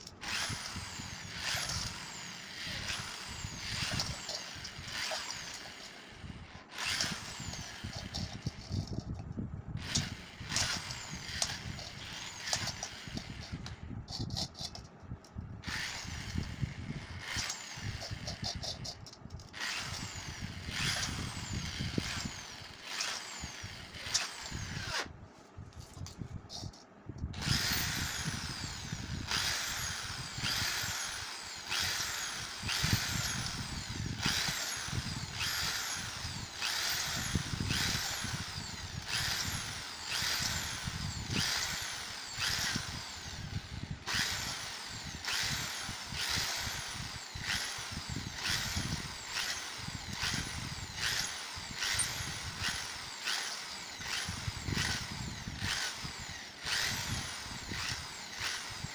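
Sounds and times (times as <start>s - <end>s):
electric drill drilling plastic: 0.0s - 9.1s, 9.8s - 14.8s, 15.6s - 25.1s, 27.4s - 58.9s.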